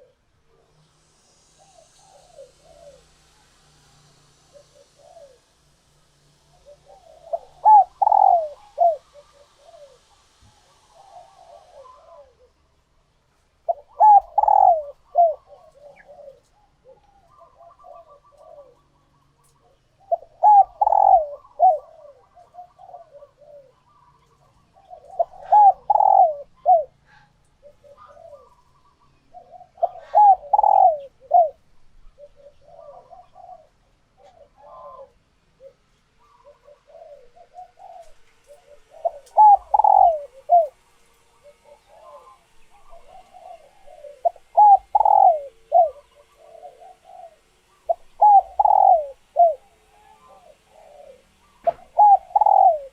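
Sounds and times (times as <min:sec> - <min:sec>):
doves cooing: 0:00.0 - 0:00.3, 0:01.3 - 0:52.9.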